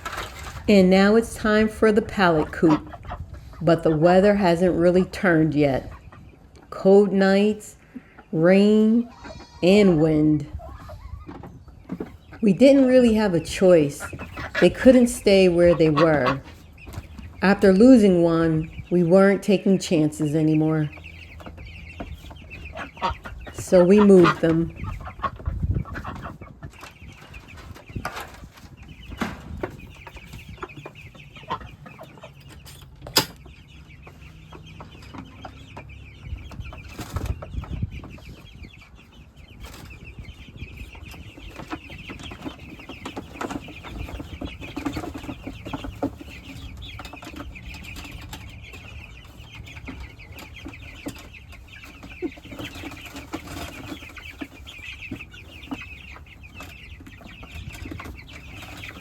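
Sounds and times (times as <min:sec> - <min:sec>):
chicks peeping and cheeping: 0:00.0 - 0:59.0.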